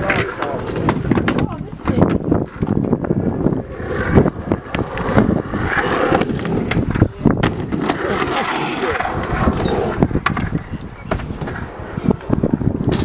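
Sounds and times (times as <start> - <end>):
skateboard clacking on ground: 0.0 - 13.0
skateboard wheels rolling on concrete: 0.0 - 13.0.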